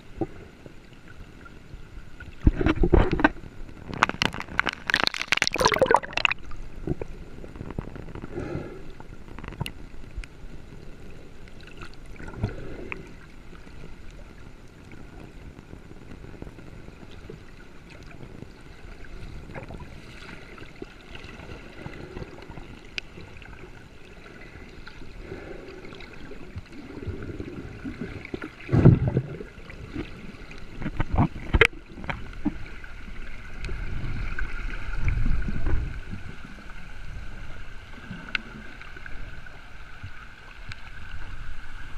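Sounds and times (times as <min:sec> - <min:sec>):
water gurgling and sloshing: 0:00.0 - 0:41.9.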